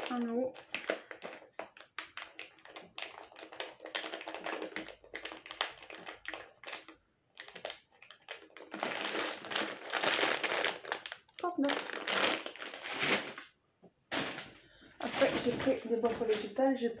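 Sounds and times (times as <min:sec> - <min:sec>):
plastic packet crinkling: 0:00.0 - 0:14.4.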